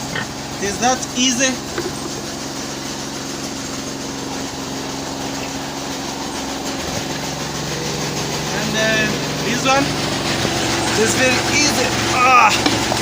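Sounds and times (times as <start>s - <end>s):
chaff cutter motor hum: 0.0s - 13.0s.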